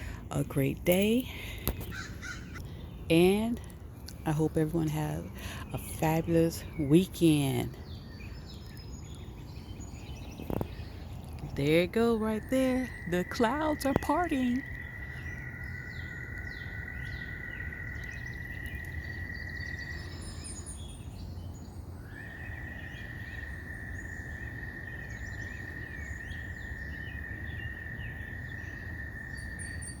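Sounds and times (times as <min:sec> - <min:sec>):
birds chirping: 0:00.0 - 0:30.0
low rumble of wind: 0:00.0 - 0:30.0.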